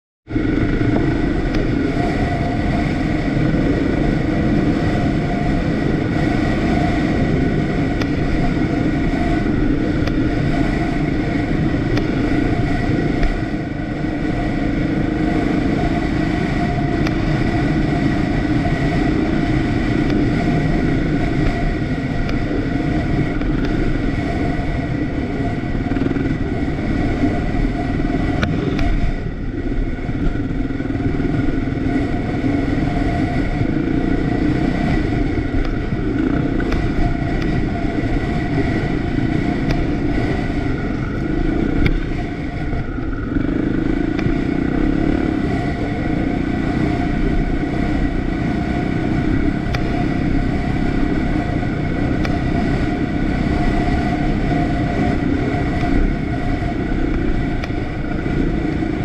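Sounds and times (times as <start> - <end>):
off-road vehicle engine running: 0.2 - 59.0.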